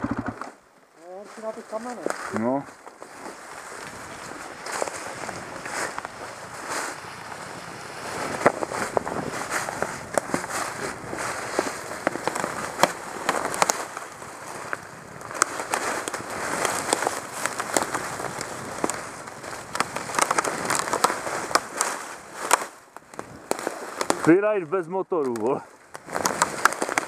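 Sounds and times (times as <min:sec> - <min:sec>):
tyres crackling over dry leaves: 0:00.0 - 0:27.0.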